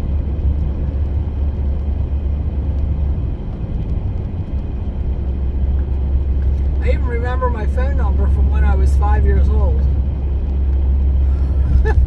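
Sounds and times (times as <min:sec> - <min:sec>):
road and engine rumble in van: 0:00.0 - 0:12.0.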